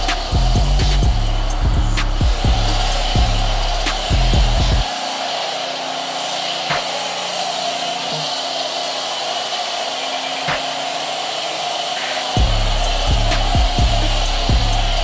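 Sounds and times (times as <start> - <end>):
pressure washer spray hissing: 0.0 - 15.0.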